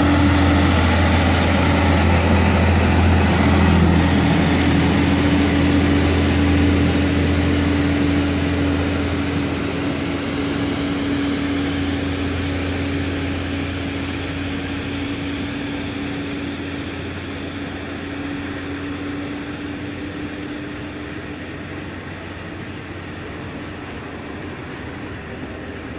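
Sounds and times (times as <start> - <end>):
truck engine droning: 0.0 - 25.9.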